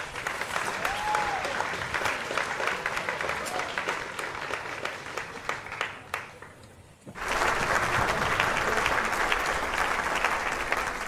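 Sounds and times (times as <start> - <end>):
audience applause: 0.0 - 6.5, 7.2 - 11.0.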